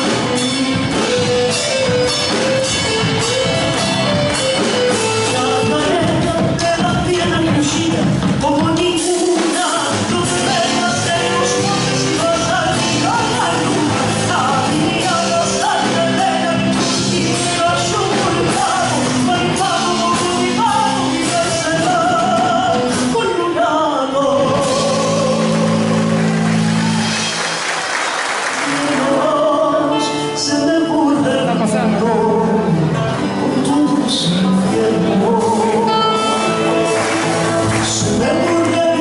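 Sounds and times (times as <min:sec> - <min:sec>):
singing with instrumental accompaniment: 0:00.0 - 0:27.7, 0:28.3 - 0:39.0.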